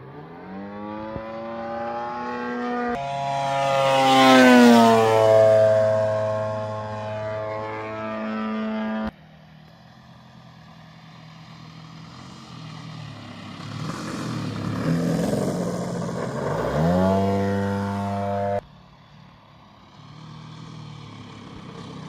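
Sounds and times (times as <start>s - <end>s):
rough engine sound: 0.0s - 22.0s
model airplane engine running: 2.3s - 22.0s.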